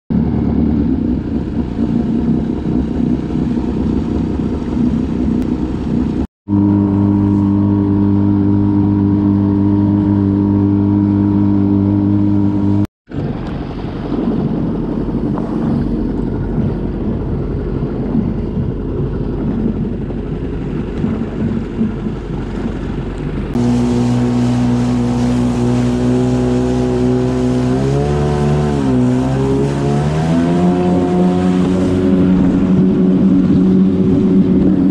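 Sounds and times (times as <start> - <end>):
jet ski engine running: 0.1 - 34.9
water rushing: 0.1 - 34.9.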